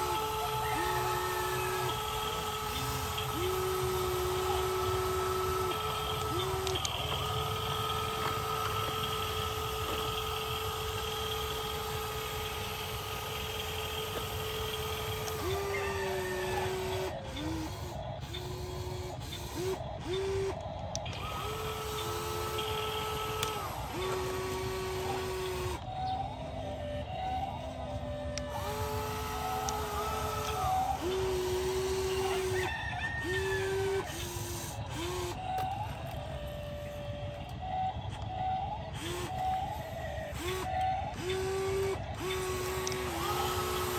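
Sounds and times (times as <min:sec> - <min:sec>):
electric gear motors whining: 0:00.0 - 0:43.9.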